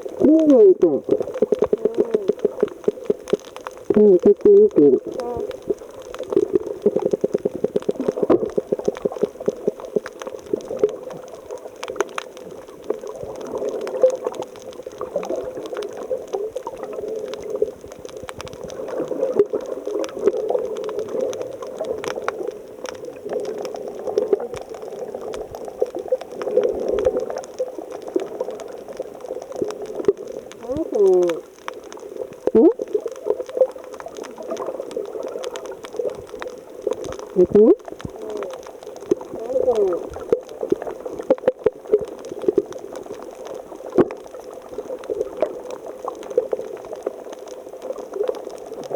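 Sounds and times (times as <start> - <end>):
small clicks and pops: 0.0 - 48.9
water bubbling and gurgling: 0.0 - 48.9.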